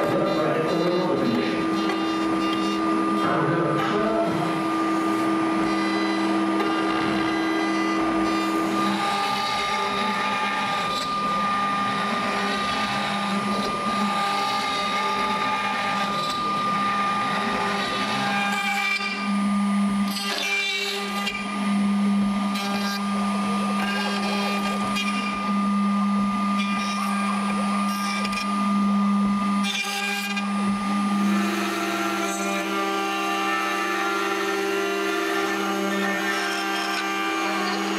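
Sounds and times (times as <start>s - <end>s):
router bit carving wood: 0.0s - 37.9s
router spindle whine: 0.0s - 37.9s.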